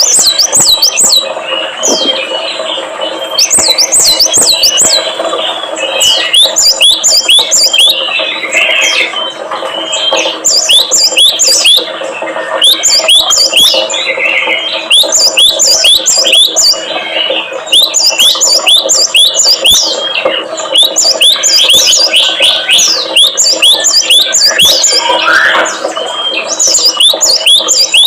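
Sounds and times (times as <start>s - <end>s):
songbird whistling: 0.0s - 11.9s, 12.6s - 28.0s
steady low hum: 0.0s - 28.0s.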